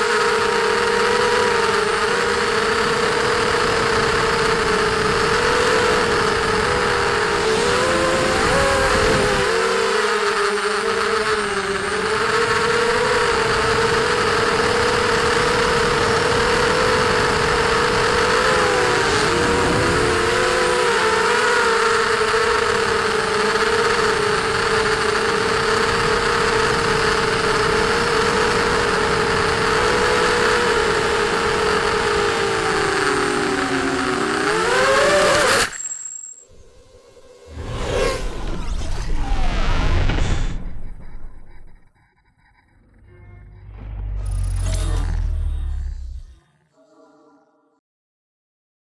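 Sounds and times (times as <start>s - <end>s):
quadcopter motors whining: 0.0s - 47.2s.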